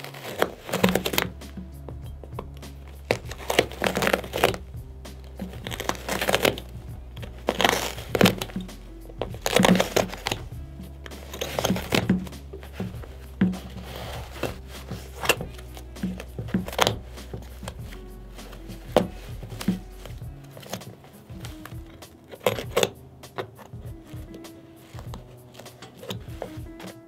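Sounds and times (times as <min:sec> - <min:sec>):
background music: 0:00.0 - 0:27.0
blade slitting shoe material: 0:00.0 - 0:27.0.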